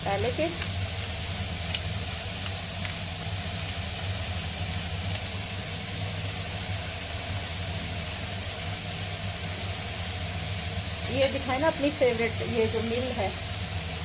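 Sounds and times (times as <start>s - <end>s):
steady low hum: 0.0s - 14.0s
vegetables sizzling in frying pan: 0.0s - 14.0s.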